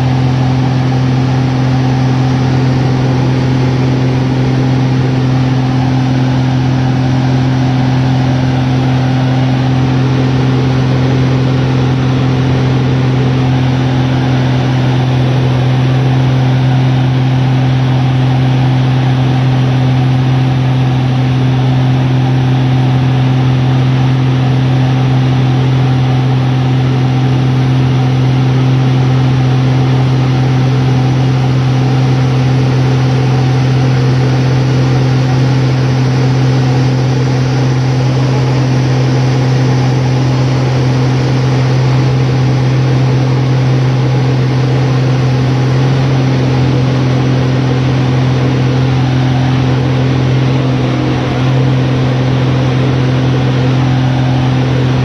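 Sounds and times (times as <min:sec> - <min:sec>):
plane engine and propeller: 0:00.0 - 0:55.0.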